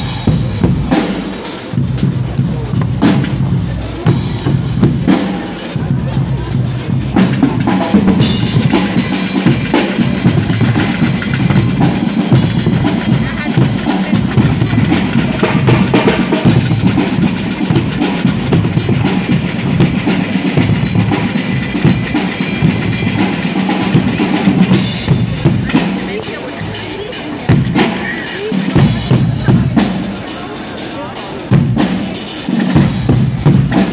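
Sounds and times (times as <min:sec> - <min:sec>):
bass drums: 0:00.0 - 0:33.9
brass band playing loudly: 0:00.0 - 0:33.9.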